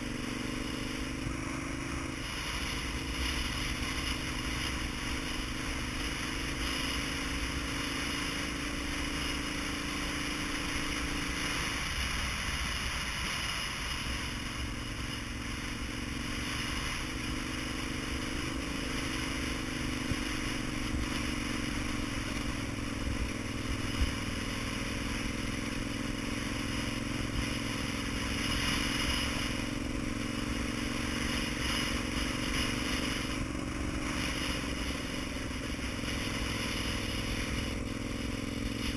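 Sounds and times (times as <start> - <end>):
steady rushing noise: 0.0 - 38.9
vehicle engine running: 0.0 - 38.9.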